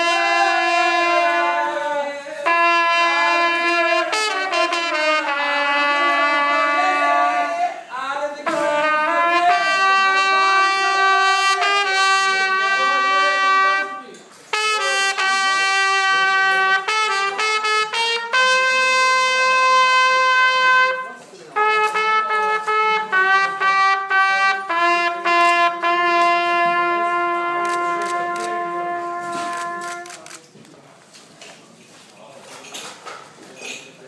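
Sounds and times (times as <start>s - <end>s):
solo trumpet playing: 0.0s - 30.4s
faint room noise: 0.0s - 34.0s.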